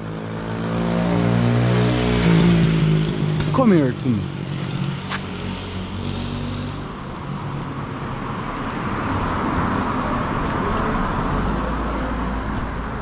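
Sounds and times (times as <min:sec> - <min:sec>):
rushing road noise: 0:00.0 - 0:13.0.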